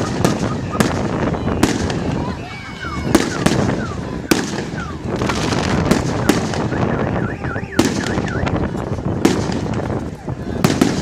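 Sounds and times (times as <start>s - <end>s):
firework whistling glides: 0.0s - 9.9s
firework bangs: 0.0s - 11.0s
firework crackle: 0.0s - 11.0s.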